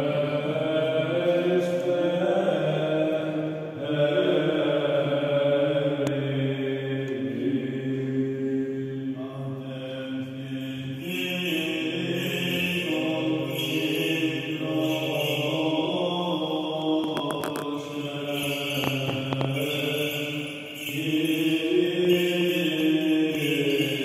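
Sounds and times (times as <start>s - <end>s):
chant with long held notes: 0.0s - 24.0s.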